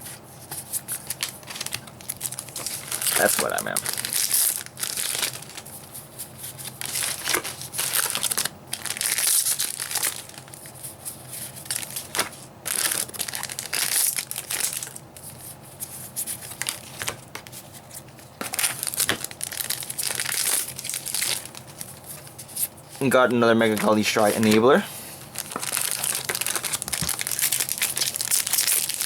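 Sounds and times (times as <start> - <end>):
plastic wrappers crinkling and tearing: 0.7 - 5.8, 6.5 - 15.4, 16.2 - 17.6, 18.4 - 29.0.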